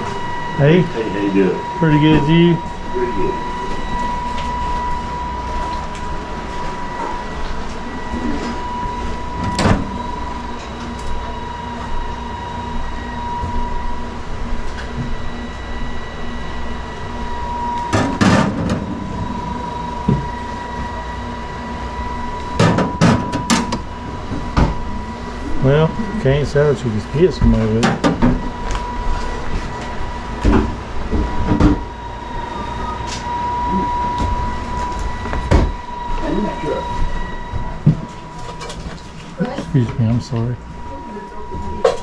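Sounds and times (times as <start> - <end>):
steady background hum: 0.0 - 42.0
thin high whine: 0.0 - 42.0.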